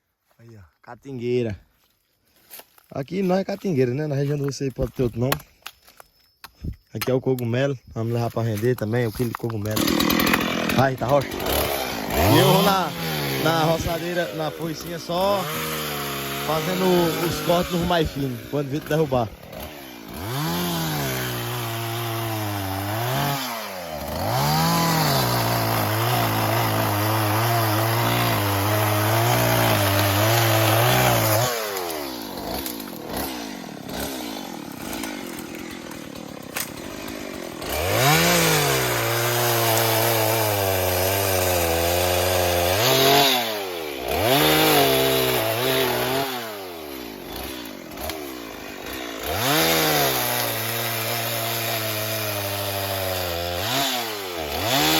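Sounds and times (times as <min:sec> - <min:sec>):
two-stroke cutting tool engine revving: 0:09.6 - 0:54.9.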